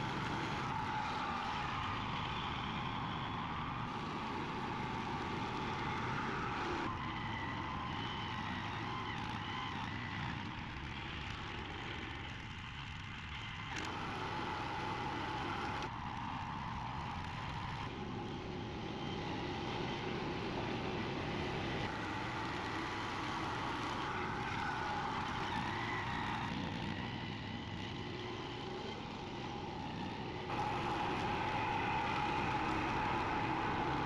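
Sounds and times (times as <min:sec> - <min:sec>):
mower engine running: 0:00.0 - 0:34.0.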